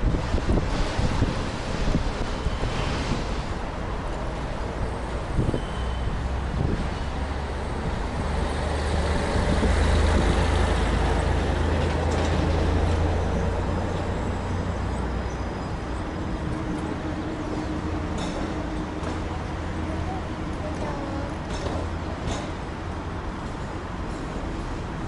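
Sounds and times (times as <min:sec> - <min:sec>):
tram rumbling on rails: 0:00.0 - 0:25.0.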